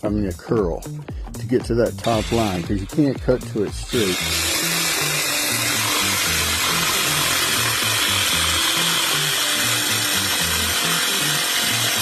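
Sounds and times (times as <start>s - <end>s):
jigsaw cutting decking: 2.0s - 12.0s.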